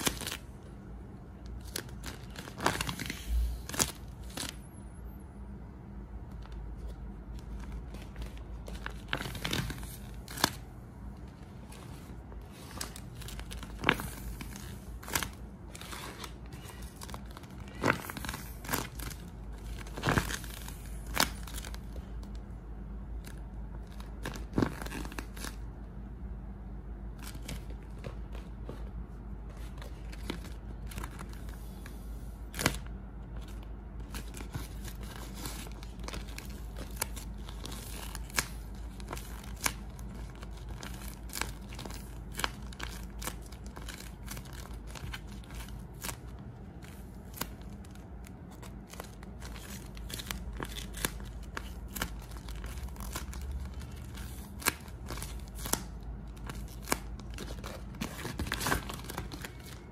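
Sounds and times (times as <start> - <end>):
paper squishies crinkling: 0.0 - 4.6, 6.2 - 25.8, 27.0 - 59.9.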